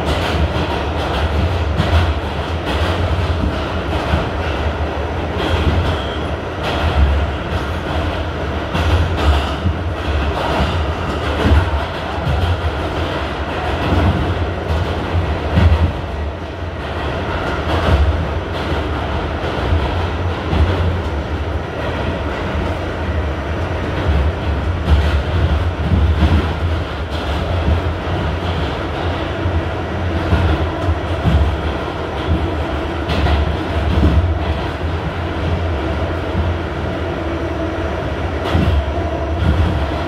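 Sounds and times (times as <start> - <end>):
subway train rumbling in tunnel: 0.0 - 40.0.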